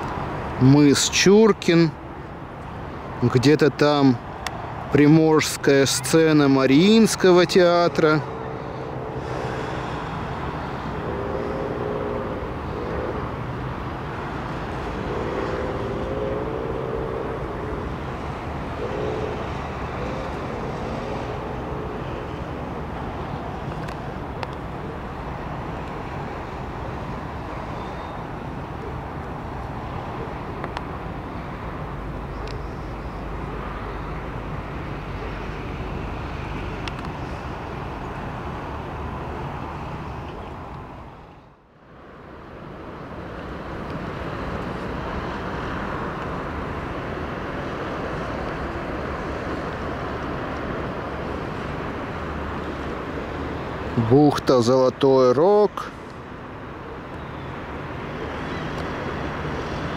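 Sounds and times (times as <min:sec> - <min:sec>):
distant city traffic hum: 0:00.0 - 0:59.9.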